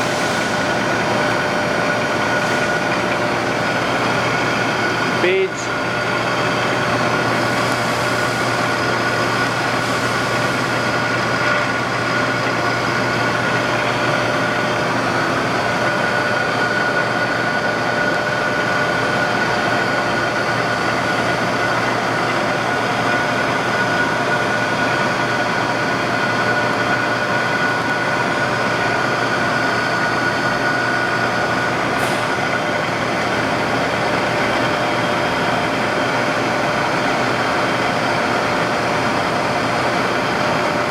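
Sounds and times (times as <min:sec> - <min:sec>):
milling machine humming and whining: 0:00.0 - 0:40.9.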